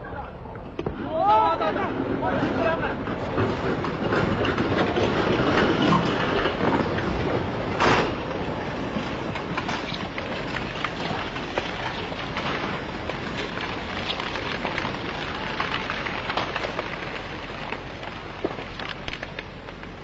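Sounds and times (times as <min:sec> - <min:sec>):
landslide rushing and crackling: 0:00.9 - 0:20.0.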